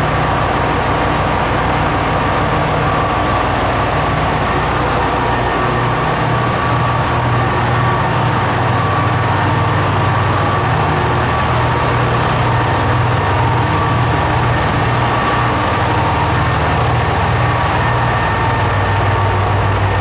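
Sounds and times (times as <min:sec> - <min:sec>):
railcar diesel engine humming: 0:00.0 - 0:20.0.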